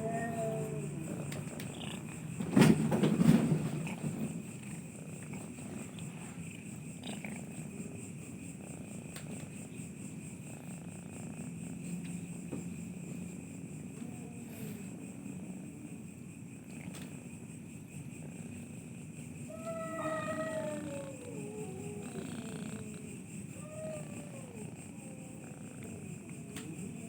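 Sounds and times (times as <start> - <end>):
cat growling low: 0.0 - 16.0, 19.5 - 27.0
cats fighting: 0.0 - 27.0.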